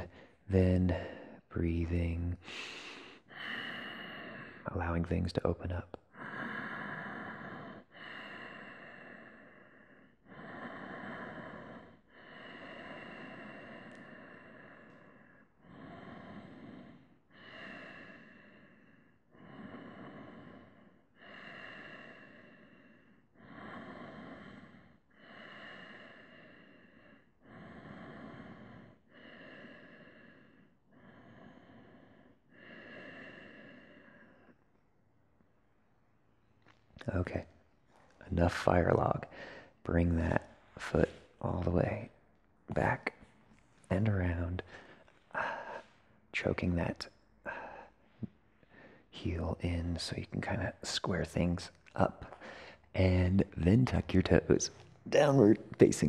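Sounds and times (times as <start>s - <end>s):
person breathing deeply: 0.0s - 34.8s, 36.7s - 50.6s, 52.1s - 56.0s.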